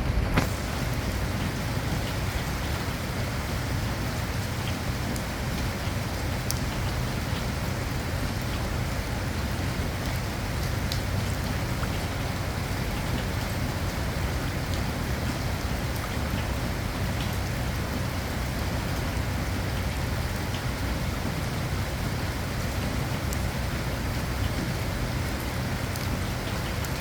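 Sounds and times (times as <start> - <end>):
low steady rumble: 0.0 - 27.0
steady rain hiss: 0.0 - 27.0.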